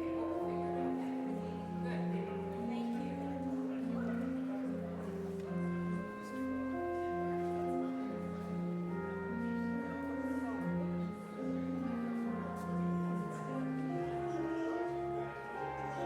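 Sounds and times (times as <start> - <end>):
slow organ music: 0.0 - 16.0.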